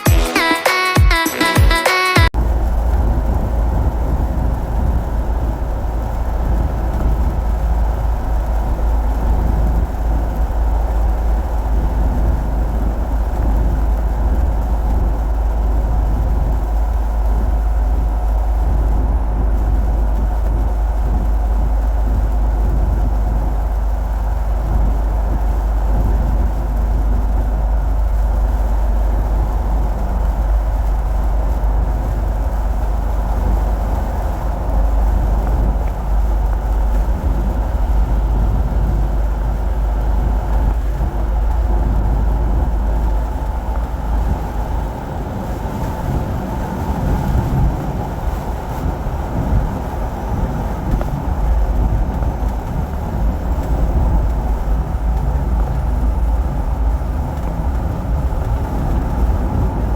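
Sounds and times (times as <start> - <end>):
road noise: 1.9 - 59.9
low engine rumble: 2.2 - 59.9.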